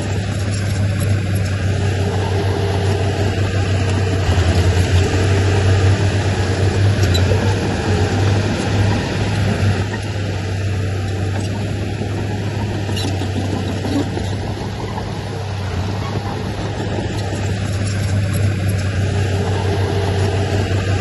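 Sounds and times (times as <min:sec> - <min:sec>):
heavy machinery diesel engine droning: 0:00.0 - 0:21.0.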